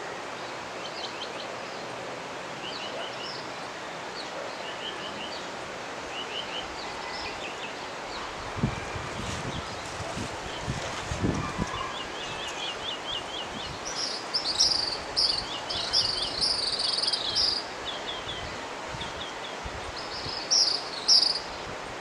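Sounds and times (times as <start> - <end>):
river rushing: 0.0 - 22.0
songbirds chirping: 0.2 - 22.0.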